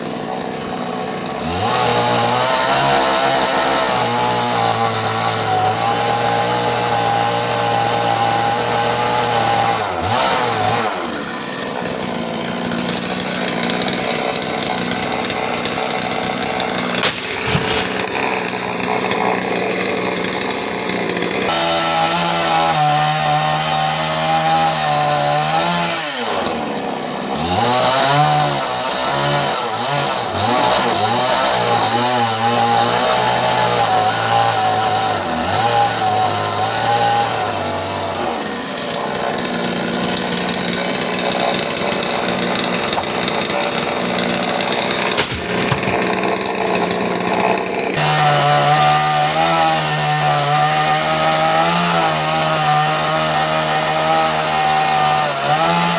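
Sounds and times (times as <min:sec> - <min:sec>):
chainsaw engine running: 0:00.0 - 0:55.9.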